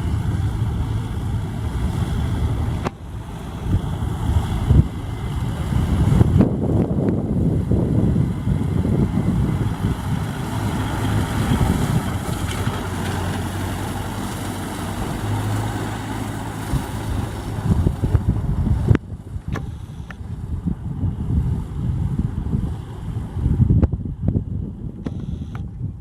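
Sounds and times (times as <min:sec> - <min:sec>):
tractor diesel engine running: 0:00.0 - 0:24.2
wind on microphone: 0:00.0 - 0:26.0.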